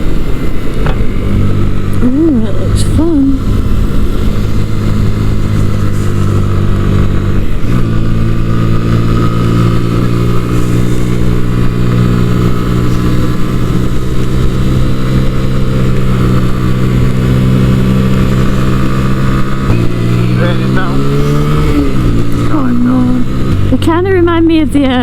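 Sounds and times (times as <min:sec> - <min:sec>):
wind rush: 0:00.0 - 0:23.8
motorcycle engine running: 0:00.0 - 0:25.0.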